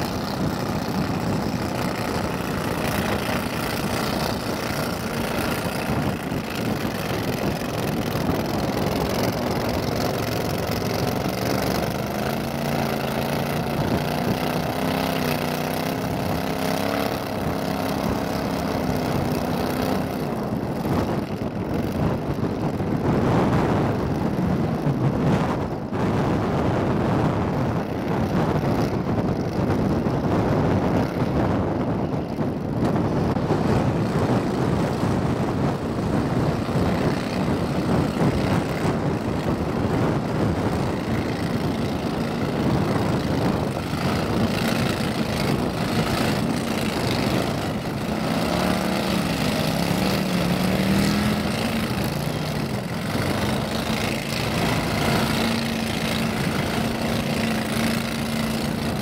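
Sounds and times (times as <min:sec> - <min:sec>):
boat motor engine running: 0:00.0 - 0:59.0.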